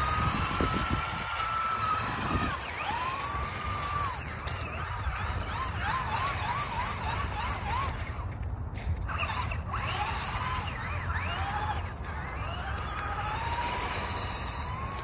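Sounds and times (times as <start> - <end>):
toy truck electric motor whining: 0.0 - 15.0.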